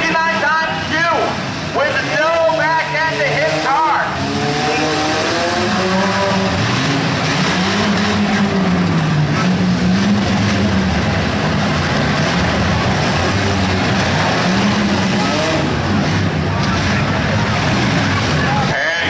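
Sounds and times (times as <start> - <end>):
car engine revving: 0.0 - 19.0
din of several engines: 0.0 - 19.0.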